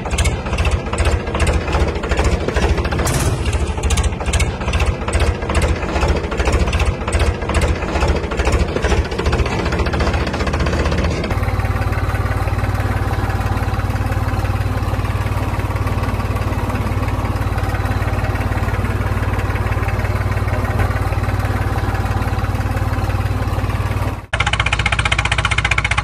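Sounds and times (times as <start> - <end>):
tractor engine running steadily: 0.0 - 26.0.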